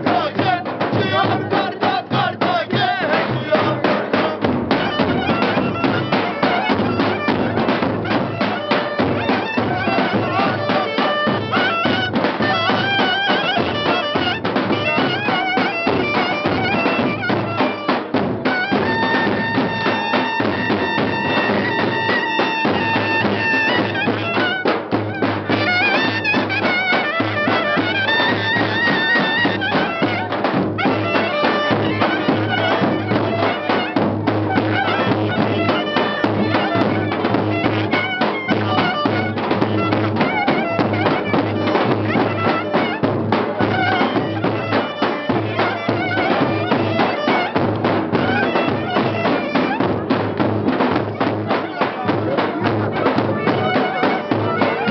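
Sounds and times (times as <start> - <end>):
shrill reed instrument melody: 3.1 - 54.9.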